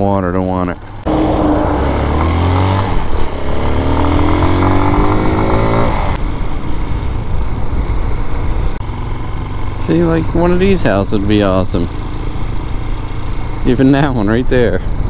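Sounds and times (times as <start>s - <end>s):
motorcycle engine accelerating: 0.8s - 15.0s.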